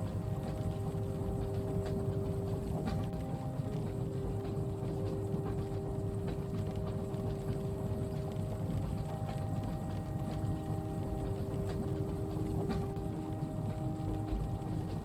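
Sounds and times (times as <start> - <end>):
faint humming tones: 0.0 - 15.0.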